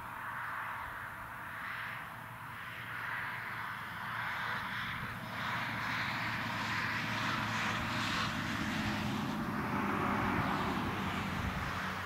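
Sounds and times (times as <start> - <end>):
steady engine drone: 0.0 - 12.0.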